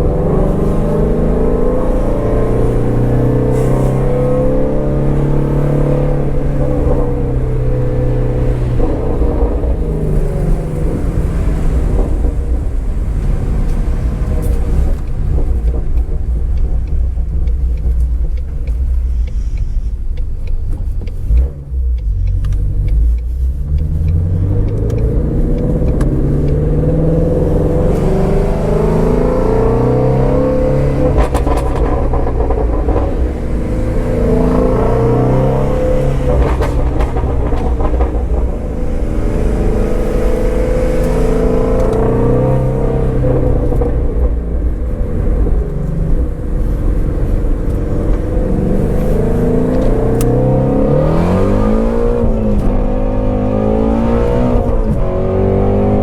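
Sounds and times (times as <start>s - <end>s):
car engine revving: 0.0s - 56.0s
exhaust crackles: 0.0s - 56.0s.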